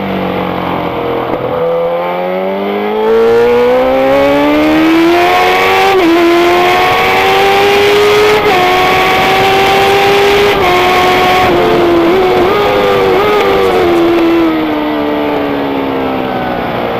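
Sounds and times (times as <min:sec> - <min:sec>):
racing motorcycle accelerating: 0:00.0 - 0:16.9.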